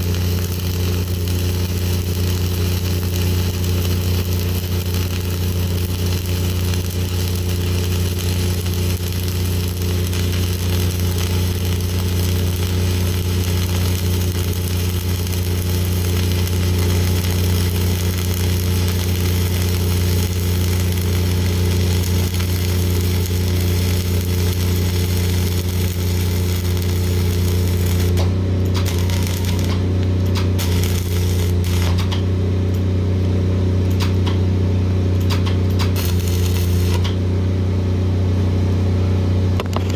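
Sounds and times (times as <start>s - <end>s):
welding arc crackling sizzle: 0.0s - 34.4s, 35.0s - 37.6s.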